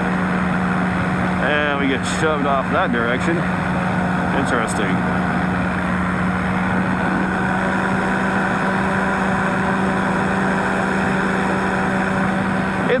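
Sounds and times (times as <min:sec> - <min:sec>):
engine and propeller droning: 0:00.0 - 0:13.0.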